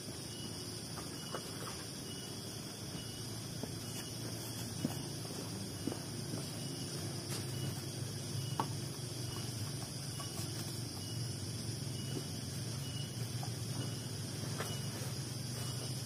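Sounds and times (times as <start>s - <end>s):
insects chirping: 0.0s - 16.0s
low background hum: 0.0s - 16.0s.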